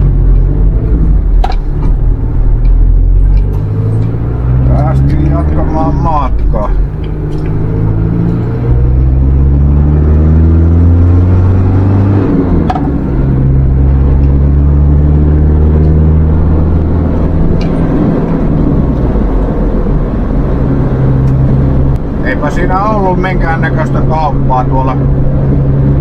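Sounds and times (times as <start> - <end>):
engine accelerating through gears: 0.0 - 26.0.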